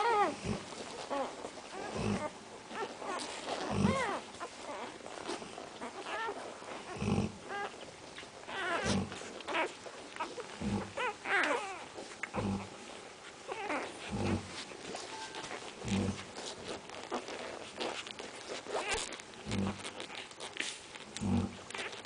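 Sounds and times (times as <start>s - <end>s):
puppies whining and yelping: 0.0s - 21.0s, 21.7s - 22.0s.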